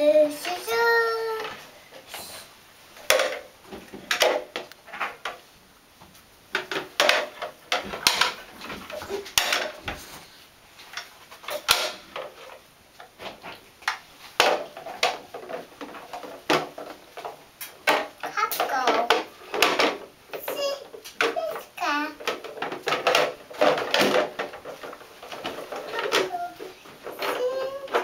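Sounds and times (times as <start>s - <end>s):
plastic bath toys clattering: 0.0s - 2.4s, 3.0s - 5.4s, 6.5s - 28.0s.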